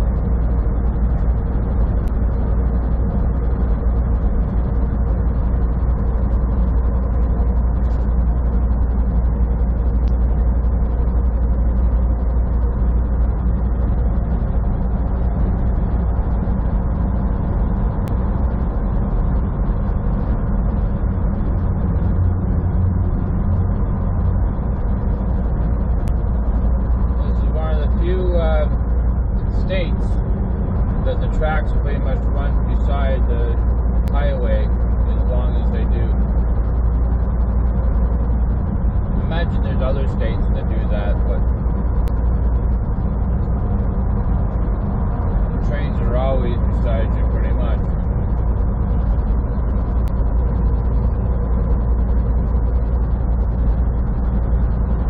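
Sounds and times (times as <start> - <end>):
truck engine and road drone: 0.0 - 55.0.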